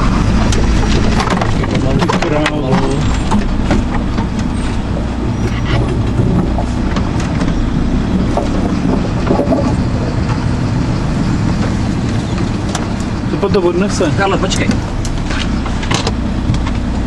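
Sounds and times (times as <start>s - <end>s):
branches brushing against vehicle: 0.0s - 17.0s
cab rattling: 0.0s - 17.0s
diesel engine rumbling: 0.0s - 17.0s.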